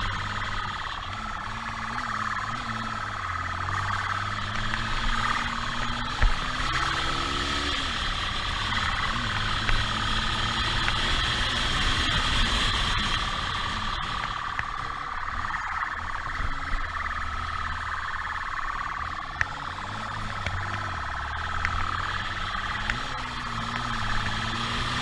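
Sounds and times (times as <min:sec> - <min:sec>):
car engine hum: 0:00.0 - 0:25.0
road noise: 0:00.0 - 0:25.0.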